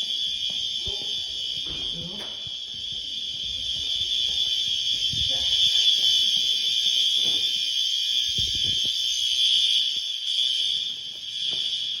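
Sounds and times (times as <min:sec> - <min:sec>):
fire alarm horns blaring: 0:00.0 - 0:12.0.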